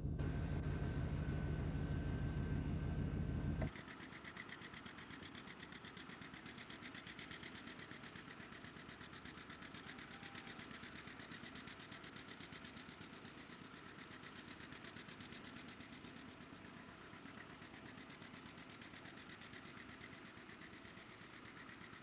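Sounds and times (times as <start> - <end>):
engine running with fast pulse: 0.0 - 22.0.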